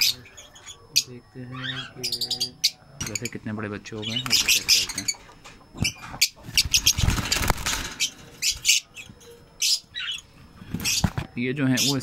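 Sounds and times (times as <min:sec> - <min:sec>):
lovebirds chirping and squawking: 0:00.0 - 0:12.0.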